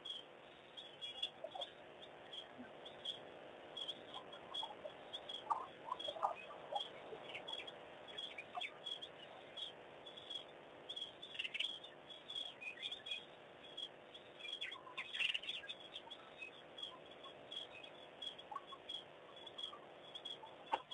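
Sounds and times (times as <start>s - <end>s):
flock of birds chirping: 0.0s - 20.9s.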